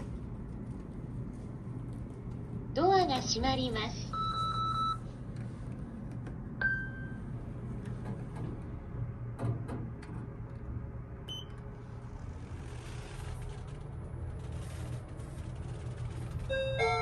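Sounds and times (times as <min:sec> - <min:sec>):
elevator humming: 0:00.0 - 0:17.0.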